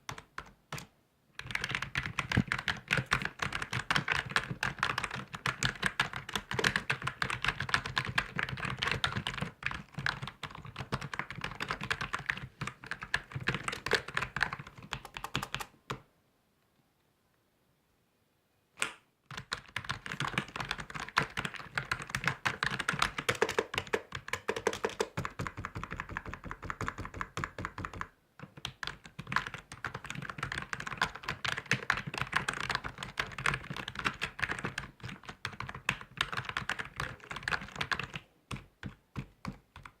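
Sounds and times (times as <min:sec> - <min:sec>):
fast typing on computer keyboard: 0:00.0 - 0:16.0, 0:19.3 - 0:40.0.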